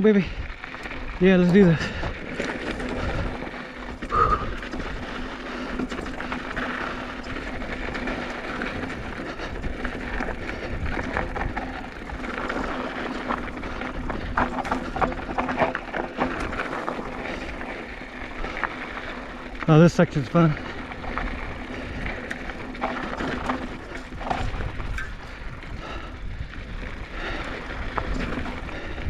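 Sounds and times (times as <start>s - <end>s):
bike rattling and knocking: 0.0s - 29.0s
bike tyres on dirt: 0.0s - 29.0s
wind rumbling on microphone: 0.2s - 29.0s.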